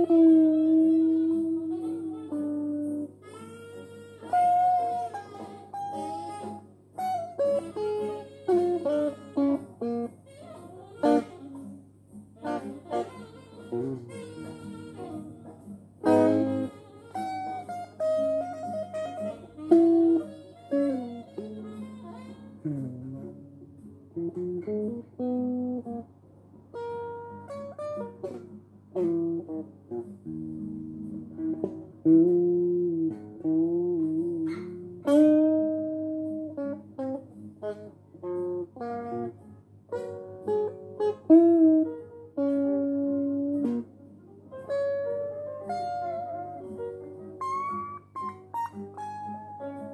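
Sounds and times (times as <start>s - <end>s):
electric guitar melody: 0.0s - 49.9s.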